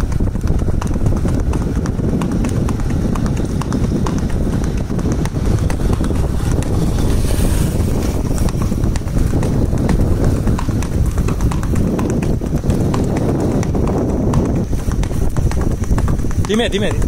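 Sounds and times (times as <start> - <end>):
horse hooves on pavement: 0.0 - 17.0
steady low rumble: 0.0 - 17.0.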